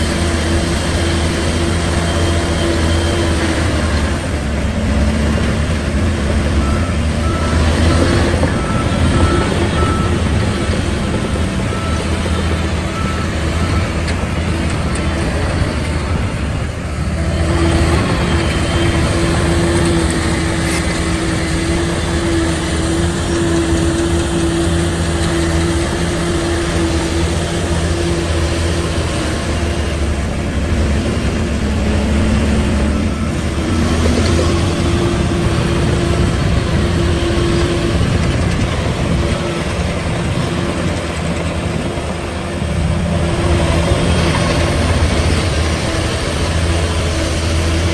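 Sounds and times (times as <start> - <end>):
diesel engine drone: 0.0 - 47.9.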